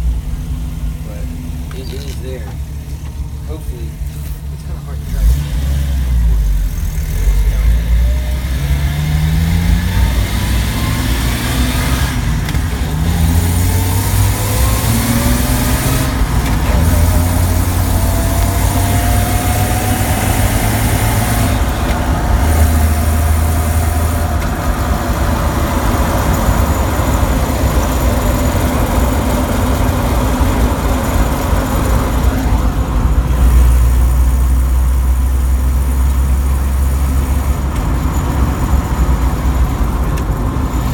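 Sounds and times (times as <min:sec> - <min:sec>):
vehicle engine accelerating: 0:00.0 - 0:40.9.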